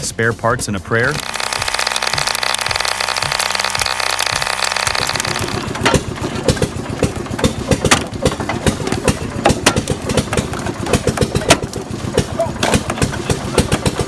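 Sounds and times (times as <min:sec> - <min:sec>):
wood splitter engine: 0:01.1 - 0:14.0.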